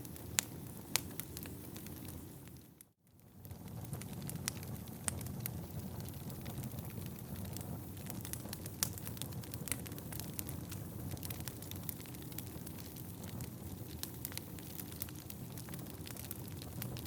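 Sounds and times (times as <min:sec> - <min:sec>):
flames rumbling: 0:00.0 - 0:17.0
wood crackling and popping: 0:00.0 - 0:17.0.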